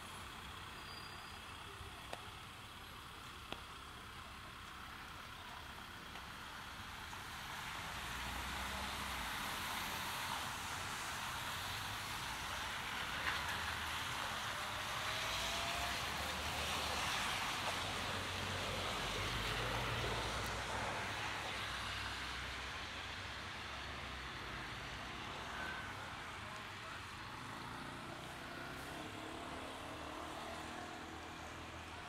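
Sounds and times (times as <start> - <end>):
low rumble of road traffic: 0.0 - 32.0.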